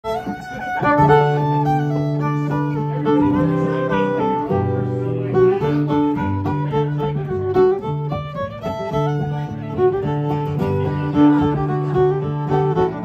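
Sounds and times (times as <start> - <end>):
fiddle playing: 0.0 - 13.0
strummed guitar: 0.0 - 13.0.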